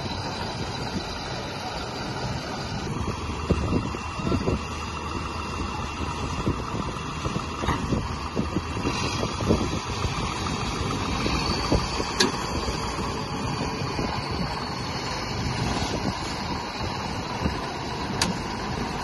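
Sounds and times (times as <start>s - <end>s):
combine harvester engine running: 0.0s - 19.0s
tractor diesel engine under load: 0.0s - 19.0s.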